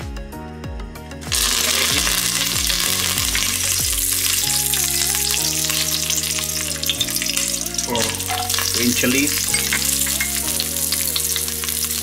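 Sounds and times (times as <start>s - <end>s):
leaves sizzling in hot oil: 1.3s - 12.0s.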